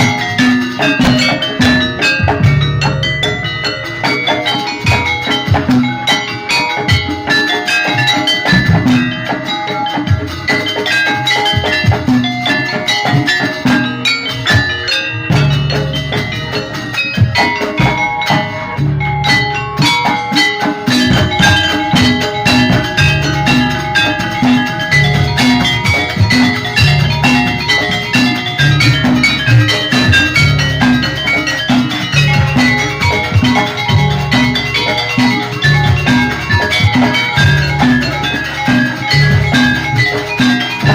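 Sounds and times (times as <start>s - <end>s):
metallophones ringing: 0.0s - 40.9s
steady drum rhythm: 0.0s - 40.9s.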